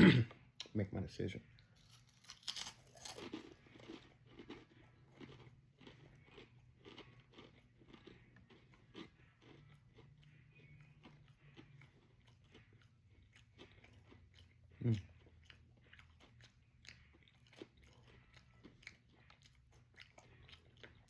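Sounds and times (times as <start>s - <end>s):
crunching and chewing crackers: 1.4s - 21.0s.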